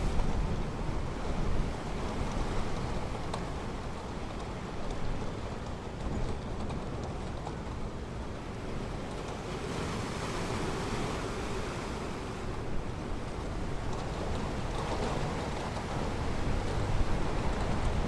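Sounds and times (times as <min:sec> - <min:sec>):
ocean waves on beach: 0:00.0 - 0:18.0.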